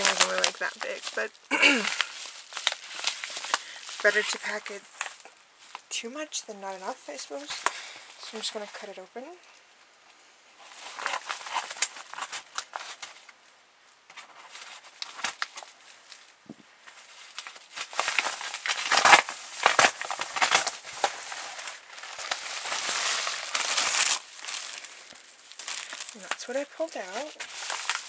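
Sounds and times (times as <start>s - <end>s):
packaging crackling and crinkling: 0.0s - 9.6s, 10.6s - 13.4s, 14.1s - 28.0s.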